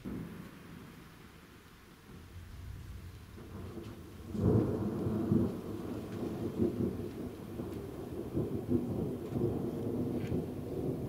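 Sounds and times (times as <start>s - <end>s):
thunder clap and rumble: 2.1s - 11.0s.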